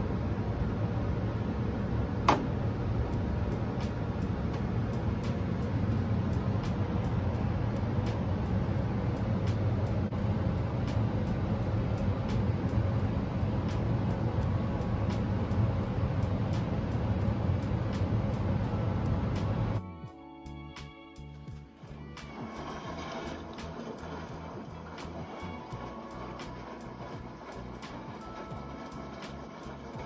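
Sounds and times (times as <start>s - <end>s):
washing machine drum rumbling: 1.8s - 19.8s, 21.5s - 30.0s.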